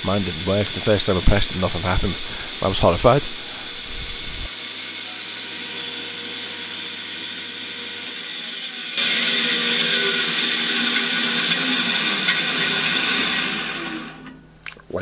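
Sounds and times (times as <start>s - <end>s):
bandsaw cutting wood: 0.0s - 14.4s.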